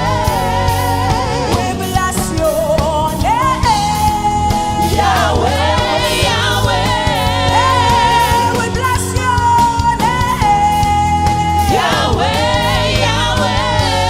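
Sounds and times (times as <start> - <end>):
gospel band with low bass: 0.0 - 14.0.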